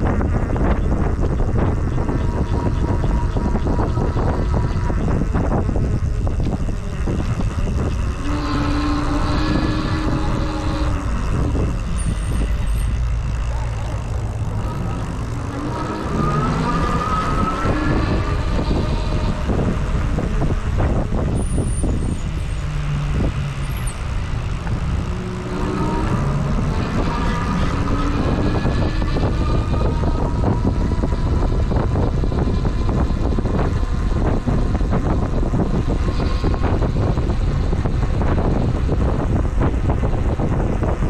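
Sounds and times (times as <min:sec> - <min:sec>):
motor vehicles passing: 0:00.0 - 0:41.0
wind rushing over microphone: 0:00.0 - 0:41.0.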